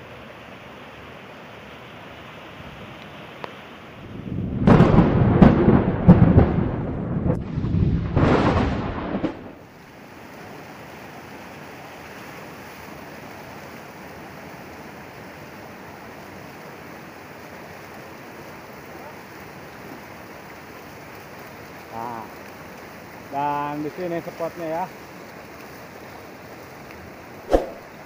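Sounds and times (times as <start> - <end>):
river rushing: 0.0 - 4.1, 9.6 - 28.0.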